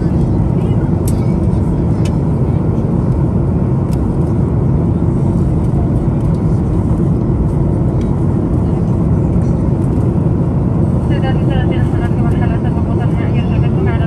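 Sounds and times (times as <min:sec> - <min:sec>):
vehicle rumble from inside cabin: 0:00.0 - 0:14.0.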